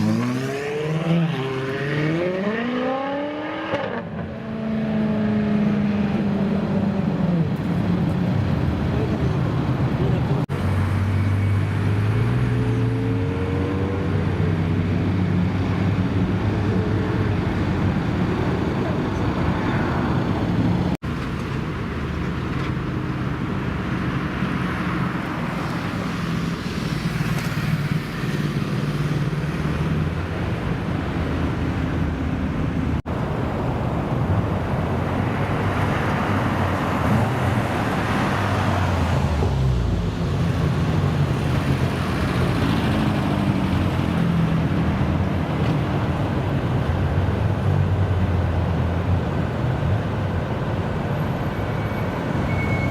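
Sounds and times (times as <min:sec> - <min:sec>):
cars passing with tyre noise: 0:00.0 - 0:52.9.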